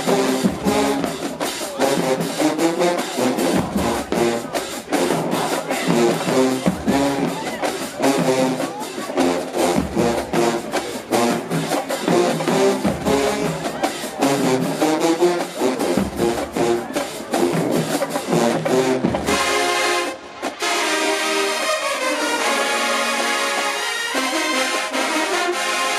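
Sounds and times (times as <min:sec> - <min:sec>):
brass horns playing: 0:00.0 - 0:25.9
fast marching drum beat: 0:00.0 - 0:25.9.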